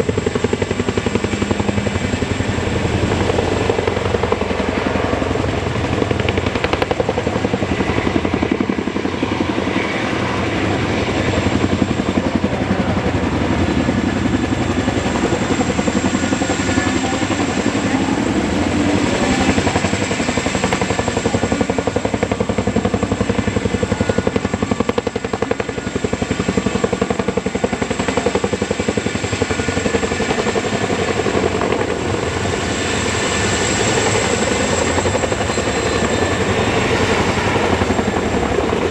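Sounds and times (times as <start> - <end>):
helicopter high whine: 0.0 - 38.9
helicopter rotor chopping: 0.0 - 38.9.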